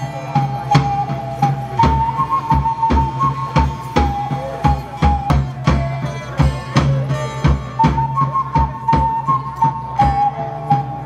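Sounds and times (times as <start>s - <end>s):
even drum beat: 0.0s - 11.0s
flute-like wind instrument melody: 0.0s - 11.0s.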